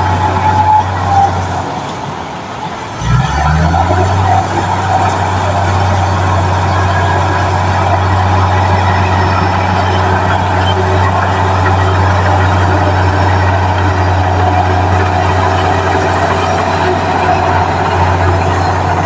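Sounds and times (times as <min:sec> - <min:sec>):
heavy diesel engine revving: 0:00.0 - 0:01.9, 0:02.9 - 0:19.0.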